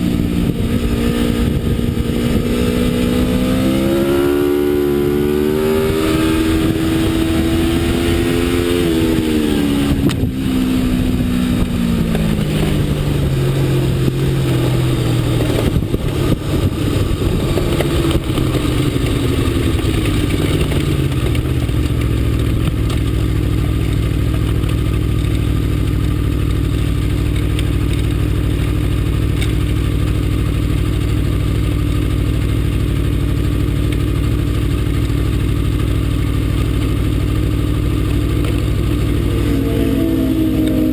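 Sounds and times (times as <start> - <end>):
motorcycle engine slowing down: 0.0 - 40.9.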